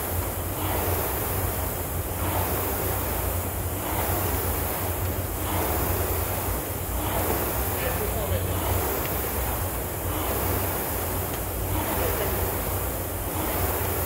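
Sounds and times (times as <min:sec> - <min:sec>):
rowing machine fan whooshing: 0:00.0 - 0:14.0.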